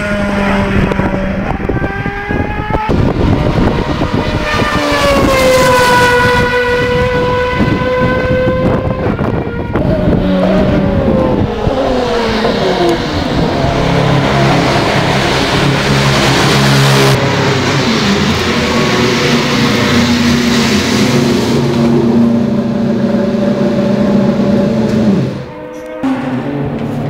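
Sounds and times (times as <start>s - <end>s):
race car engine passing: 0.0s - 27.0s.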